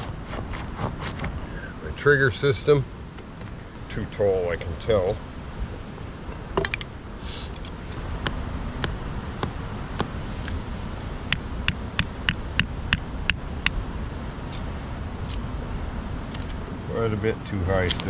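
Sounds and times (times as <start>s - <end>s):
wind rumble: 0.0s - 18.0s.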